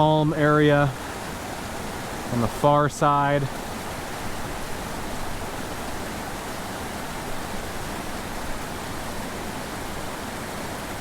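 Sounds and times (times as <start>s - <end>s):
creek rushing over boulders: 0.0s - 11.0s.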